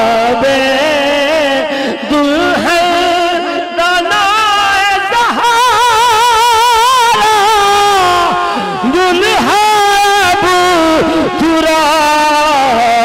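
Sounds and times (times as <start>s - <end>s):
man singing melismatic notes: 0.0s - 13.0s.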